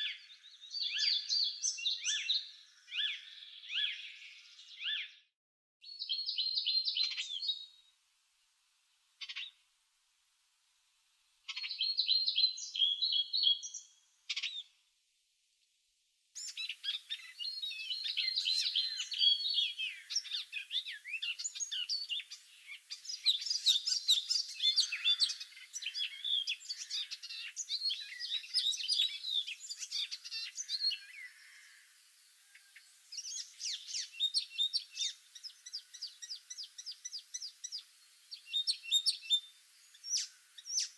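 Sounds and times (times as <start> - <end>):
chorus of many birds: 0.0 - 5.2, 5.9 - 7.9, 9.2 - 9.6, 11.4 - 14.8, 16.4 - 40.9
songbirds chirping: 0.0 - 40.9.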